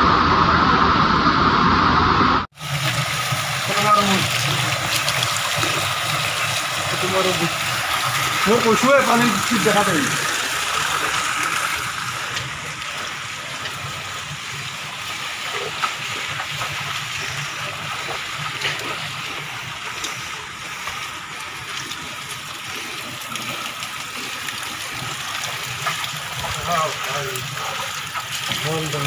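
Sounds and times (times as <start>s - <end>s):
water running and gurgling: 2.5s - 29.0s.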